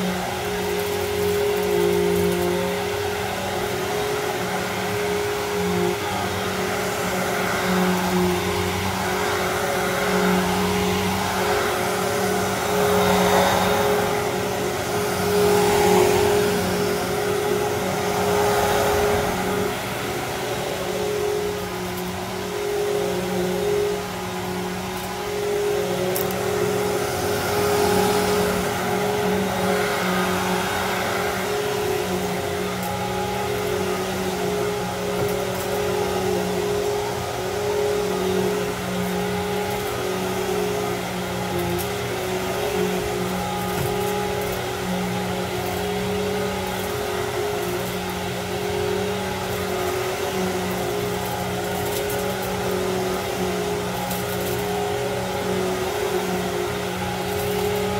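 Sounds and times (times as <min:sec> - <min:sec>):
vacuum cleaner running on carpet: 0:00.0 - 0:57.9.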